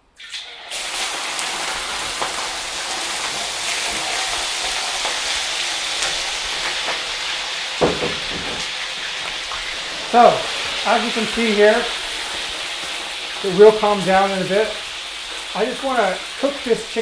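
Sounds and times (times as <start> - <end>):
chicken frying with loud sizzle: 0.0 - 17.0.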